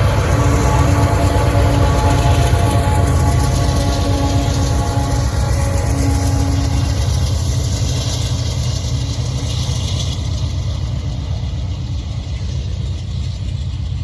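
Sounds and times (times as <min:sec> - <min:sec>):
train rumbling past: 0:00.0 - 0:14.0
wheels hissing on rail: 0:00.0 - 0:14.0.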